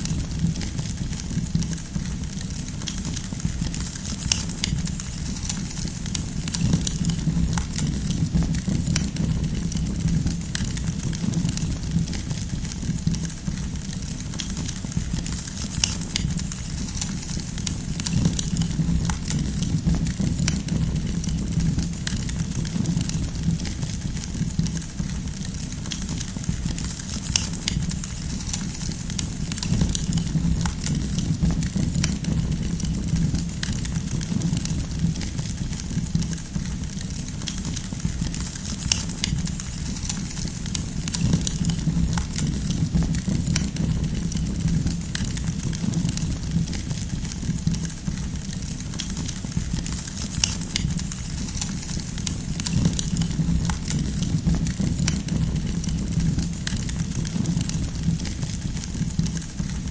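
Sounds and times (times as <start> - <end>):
firewood crackling and popping: 0.0 - 59.9
rushing rumble of flames: 0.0 - 59.9.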